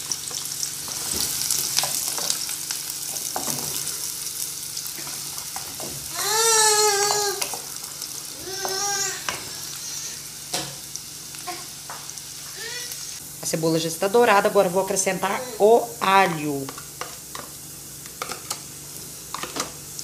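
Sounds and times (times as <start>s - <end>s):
onion sizzling in a pot: 0.0s - 20.0s.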